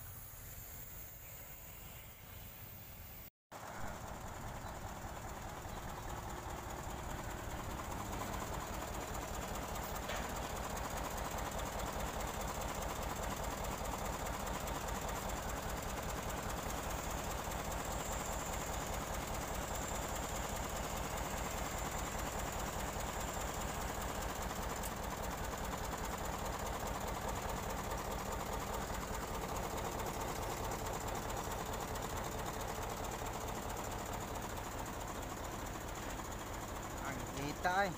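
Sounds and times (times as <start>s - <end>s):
truck engine running: 3.6s - 37.9s.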